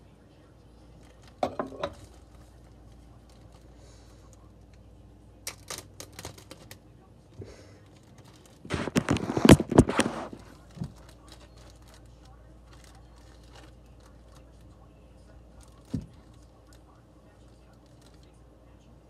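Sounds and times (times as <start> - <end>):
plastic bag crinkling: 0.9 - 4.5, 5.4 - 6.8, 7.8 - 18.4.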